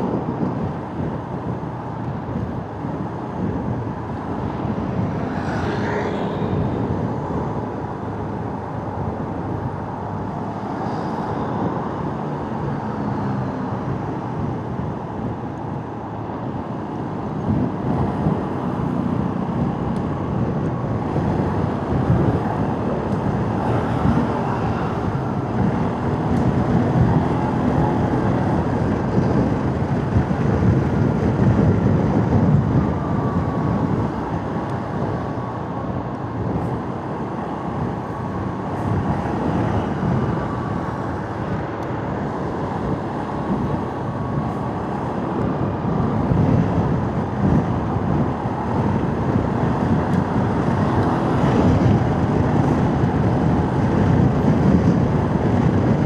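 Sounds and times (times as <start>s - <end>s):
road and traffic noise: 0.0s - 56.0s.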